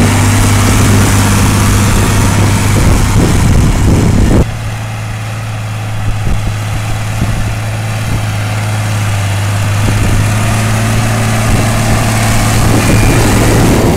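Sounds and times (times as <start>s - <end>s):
tractor diesel engine droning: 0.0s - 13.9s.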